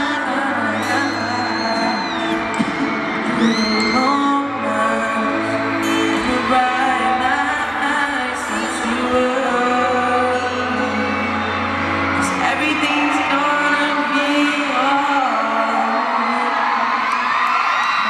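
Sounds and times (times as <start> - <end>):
man singing over pa: 0.0 - 17.0
musical accompaniment: 0.0 - 18.0.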